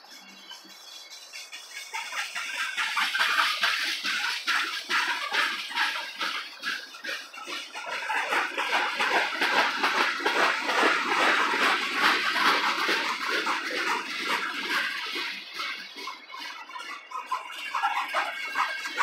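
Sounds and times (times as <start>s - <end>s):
train wheels clattering on rails: 0.2s - 19.0s.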